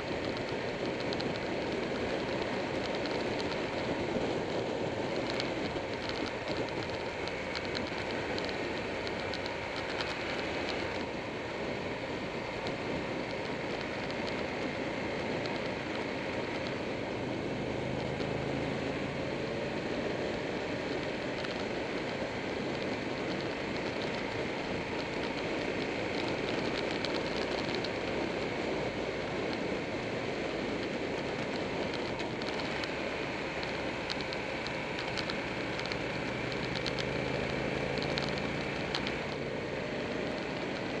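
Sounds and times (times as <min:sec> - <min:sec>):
motorcycle engine running: 0:00.0 - 0:41.0
road noise: 0:00.0 - 0:41.0.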